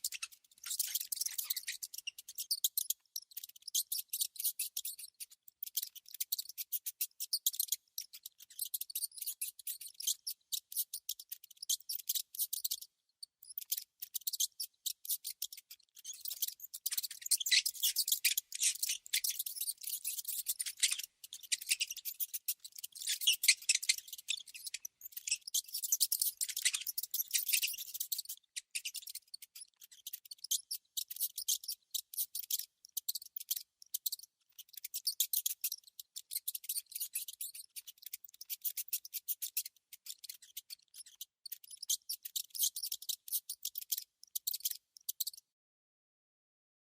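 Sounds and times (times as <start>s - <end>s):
rodent clicks and squeaks: 0.0s - 45.5s.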